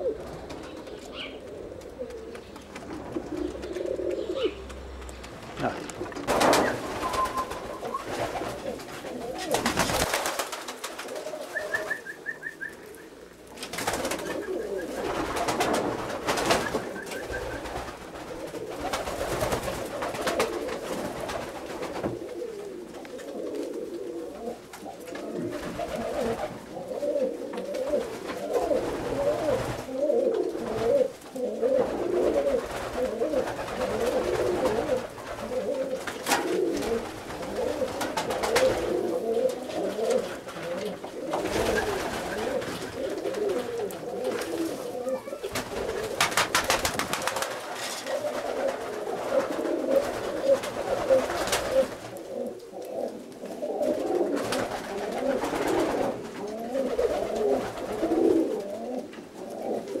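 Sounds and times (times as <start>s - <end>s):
pigeons cooing: 0.0s - 60.0s.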